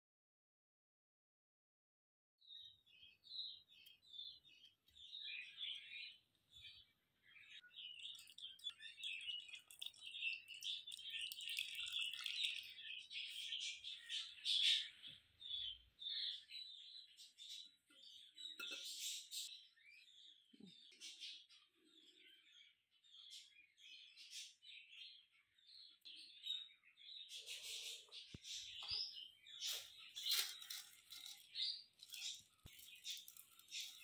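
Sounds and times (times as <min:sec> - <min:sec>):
small birds chirping: 0:02.4 - 0:34.0.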